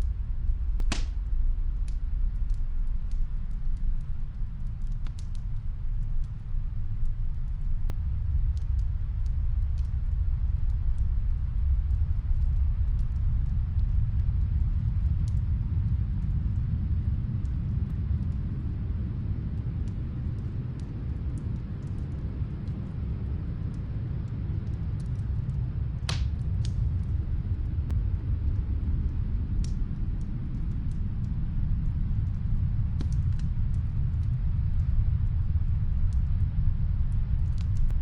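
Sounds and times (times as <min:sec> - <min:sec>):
snowstorm wind: 0:00.0 - 0:38.0
wood fire crackling: 0:00.0 - 0:38.0.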